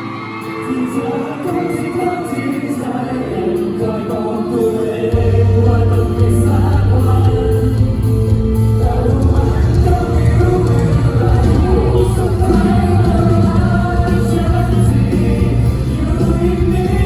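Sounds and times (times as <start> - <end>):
band playing: 0.0 - 17.0
people singing pop ballad: 0.0 - 17.0.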